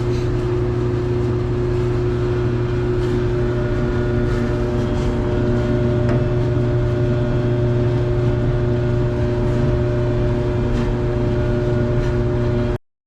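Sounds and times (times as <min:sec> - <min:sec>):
clothes dryer humming: 0:00.0 - 0:12.8.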